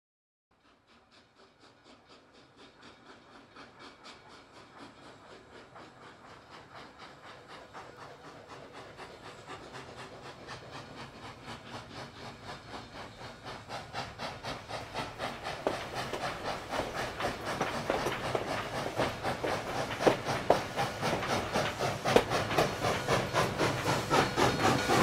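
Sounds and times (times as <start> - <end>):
steam locomotive chuffing: 0.5 - 25.0.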